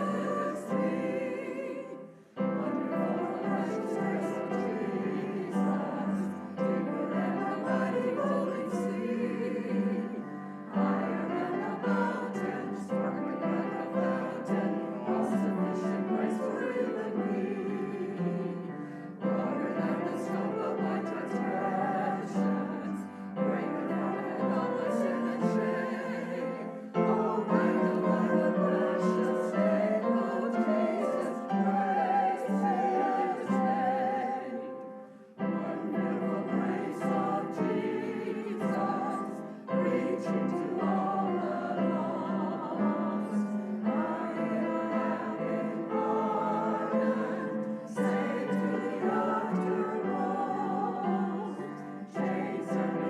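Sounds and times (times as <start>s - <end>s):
people singing with vibrato: 0.0s - 53.0s
piano accompaniment: 0.0s - 53.0s.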